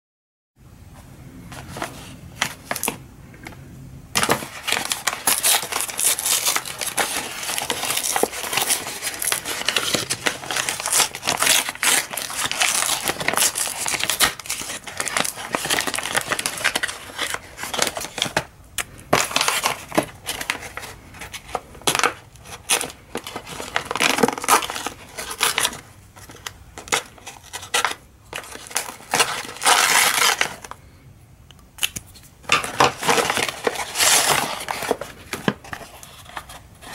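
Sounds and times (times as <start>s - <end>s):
paper envelope crinkling and ripping: 1.5s - 3.0s, 4.2s - 30.8s, 31.8s - 36.9s.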